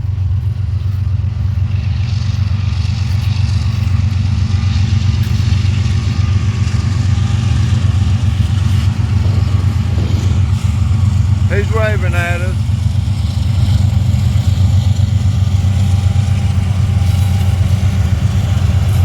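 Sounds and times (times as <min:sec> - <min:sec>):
train wheels rattling: 0:00.0 - 0:11.5, 0:12.6 - 0:19.0
locomotive engine rumble: 0:00.0 - 0:19.0.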